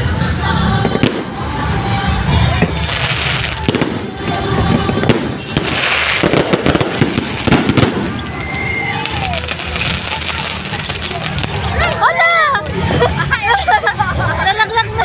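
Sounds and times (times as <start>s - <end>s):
fireworks bursting: 0.8s - 13.0s
fireworks crackling: 0.8s - 13.2s.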